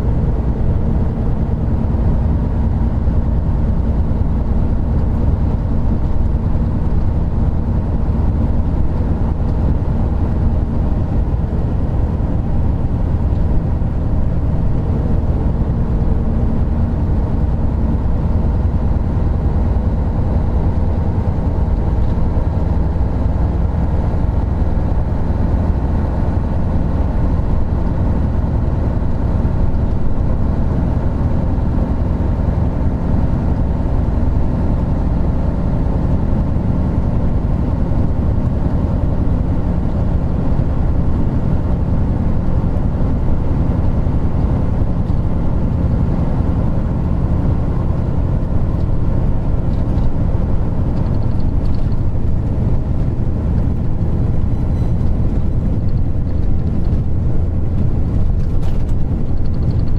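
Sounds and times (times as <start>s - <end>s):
diesel engine running steadily: 0.0s - 59.9s
road and tyre noise: 0.0s - 59.9s.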